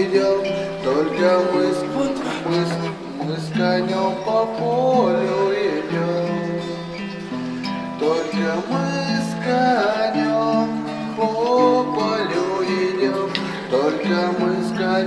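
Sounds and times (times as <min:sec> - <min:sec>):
acoustic guitar with sliding melody: 0:00.0 - 0:15.0.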